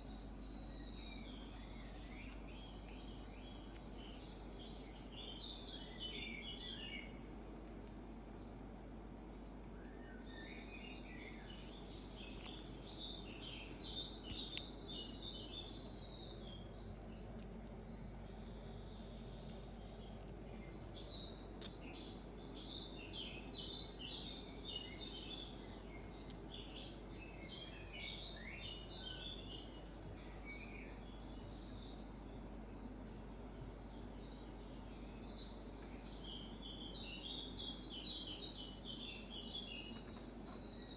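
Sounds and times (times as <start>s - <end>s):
small birds chirping: 0.0s - 40.9s
steady low hiss: 0.0s - 40.9s.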